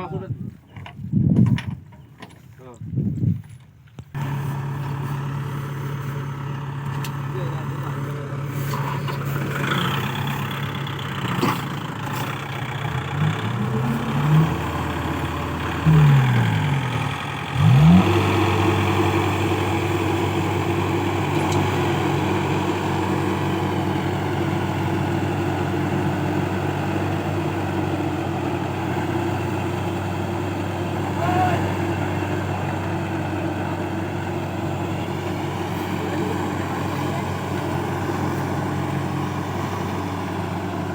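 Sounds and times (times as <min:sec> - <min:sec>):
diesel engine revving: 0:04.2 - 0:40.9.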